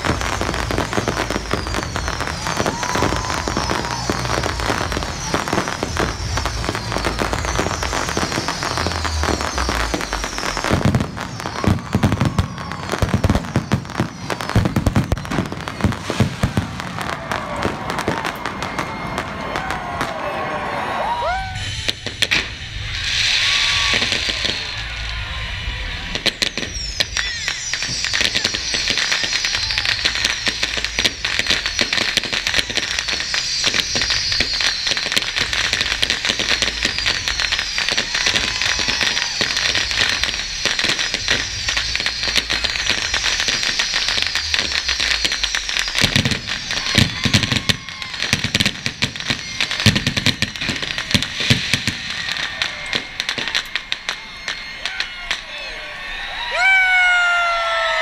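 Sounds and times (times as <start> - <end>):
fireworks booms: 0.0 - 58.0
fireworks crackling and popping: 0.0 - 58.0.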